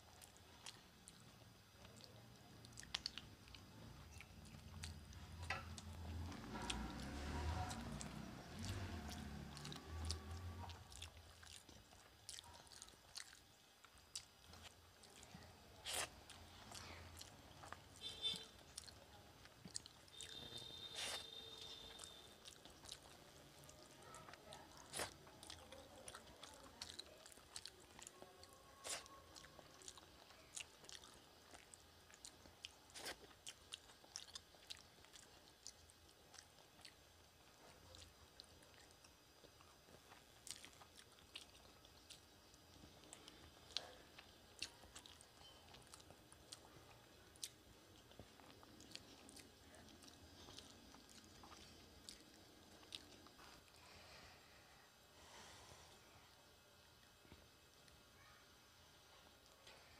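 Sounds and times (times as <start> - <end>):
person chewing food: 0.0 - 54.3.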